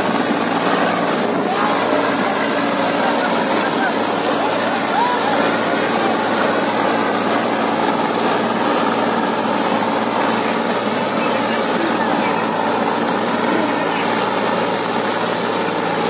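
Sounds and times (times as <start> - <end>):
onlookers' voices: 0.0 - 16.0
tractor diesel engine under load: 0.0 - 16.0.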